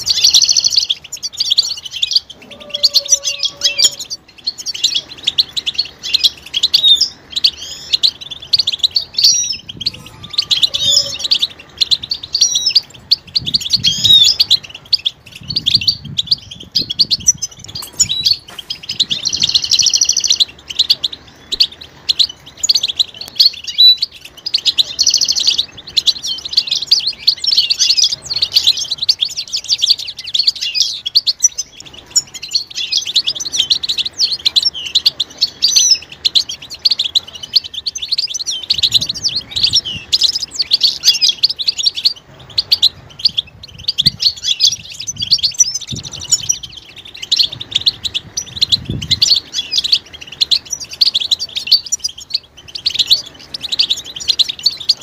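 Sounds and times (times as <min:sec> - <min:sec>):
finches twittering and singing: 0:00.0 - 0:55.0.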